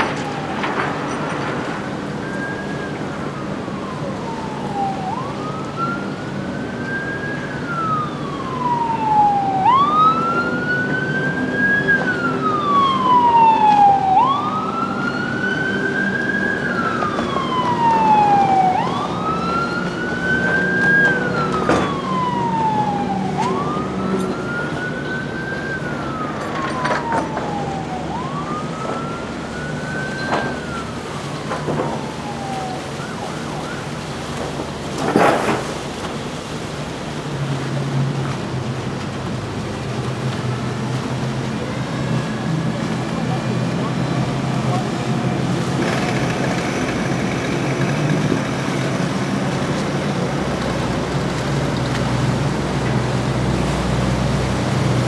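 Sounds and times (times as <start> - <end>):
higher siren: 0.0 - 34.4, 40.2 - 55.0
wailing siren: 0.0 - 35.6, 39.4 - 55.0.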